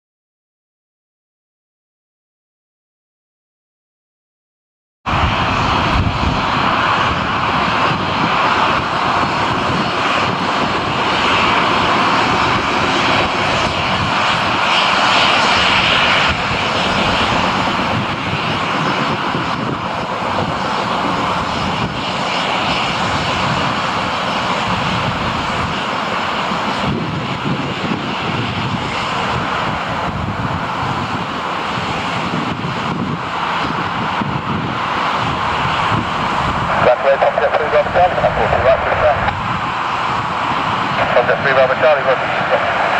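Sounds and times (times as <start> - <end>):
jet engines running: 5.1 - 42.9.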